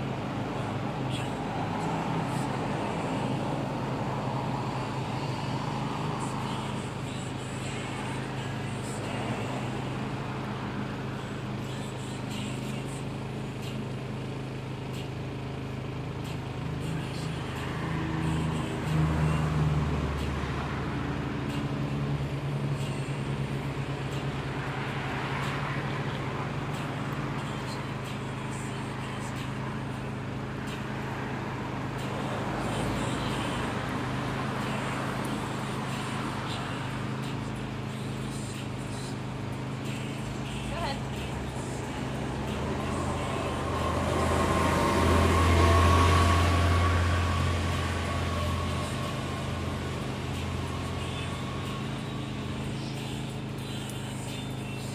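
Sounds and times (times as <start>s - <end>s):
city traffic: 0.0s - 54.9s
engine humming: 0.0s - 54.9s
urban street noise: 0.0s - 54.9s.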